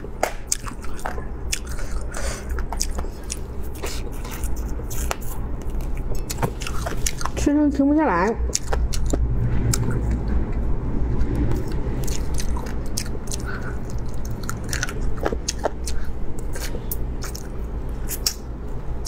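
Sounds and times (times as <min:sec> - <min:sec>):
chewing on bones: 0:00.0 - 0:07.5, 0:08.2 - 0:10.4, 0:11.2 - 0:19.0.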